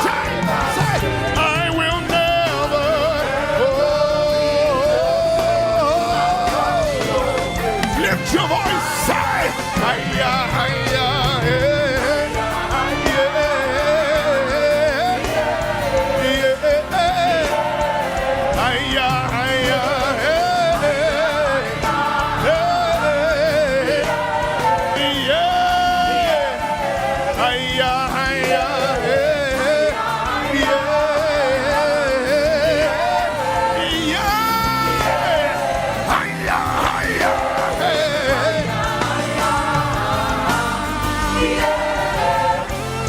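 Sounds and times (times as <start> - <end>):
band playing: 0.0 - 43.0
musical accompaniment: 0.0 - 43.0
solo singer with ornamented vocals: 0.0 - 43.0
steady drum beat: 0.0 - 43.0.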